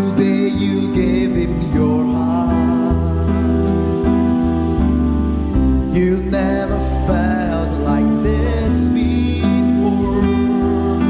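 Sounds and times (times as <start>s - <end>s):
man singing a long note: 0.0s - 4.4s, 5.7s - 11.0s
instrumental backing with deep bass: 0.0s - 11.0s.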